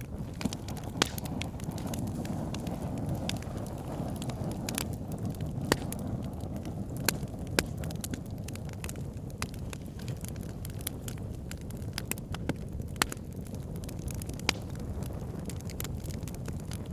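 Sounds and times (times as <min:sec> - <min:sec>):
fire crackles and pops: 0:00.0 - 0:16.9
low rush of flames: 0:00.0 - 0:16.9.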